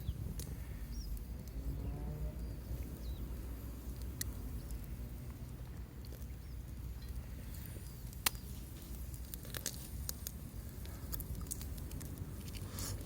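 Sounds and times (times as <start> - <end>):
campfire crackling and popping: 0.0 - 1.6, 2.7 - 13.0
steady low rumble: 0.0 - 13.0.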